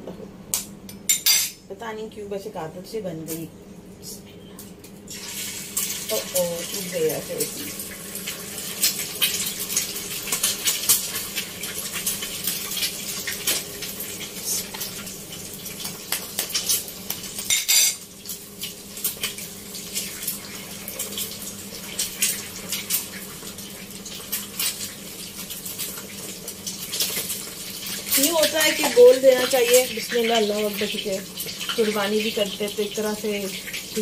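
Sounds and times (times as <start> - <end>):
eggs frying in hot oil: 4.8 - 34.0.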